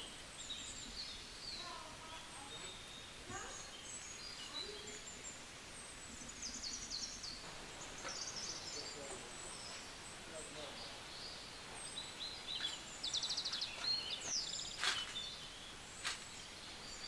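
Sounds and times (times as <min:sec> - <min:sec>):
background hiss: 0:00.0 - 0:17.0
small birds chirping: 0:00.0 - 0:17.0.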